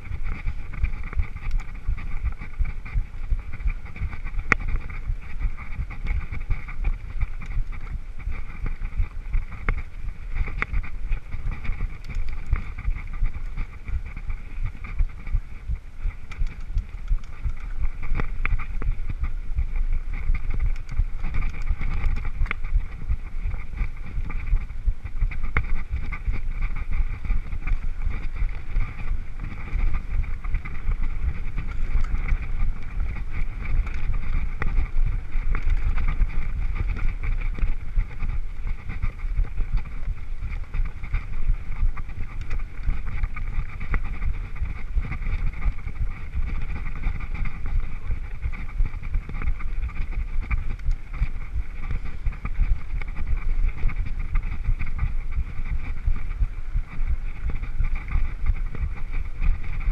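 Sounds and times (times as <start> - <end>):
bike clicks and rattles: 0.0 - 56.9
wind rumble on microphone: 0.0 - 59.9.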